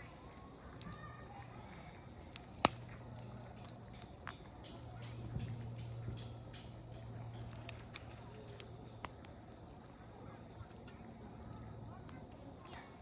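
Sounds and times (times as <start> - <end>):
campfire crackling and popping: 0.0 - 13.0
crickets chirping: 0.0 - 13.0.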